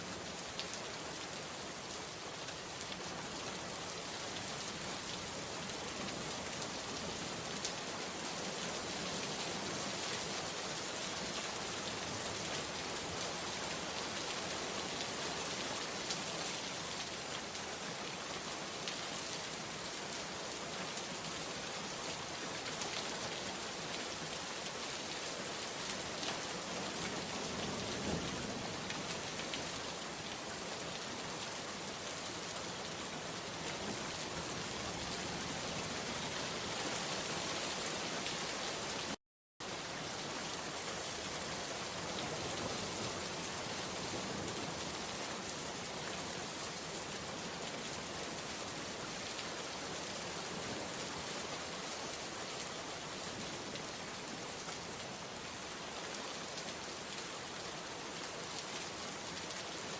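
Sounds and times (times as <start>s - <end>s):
rain falling on surfaces: 0.0s - 59.9s.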